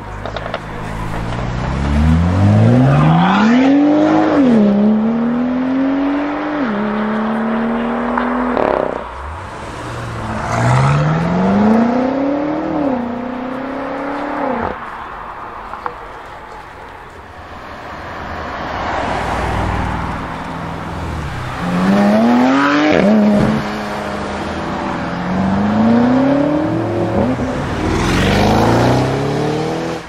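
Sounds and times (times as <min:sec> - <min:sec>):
car engines accelerating hard: 0:00.0 - 0:16.4, 0:17.8 - 0:30.0.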